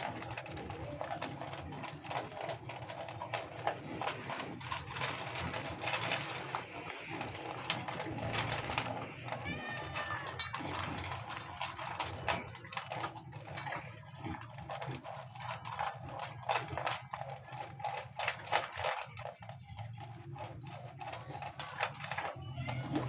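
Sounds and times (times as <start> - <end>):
dog crunching dry kibble: 0.0 - 23.0
food clinking against metal bowl: 0.0 - 23.0.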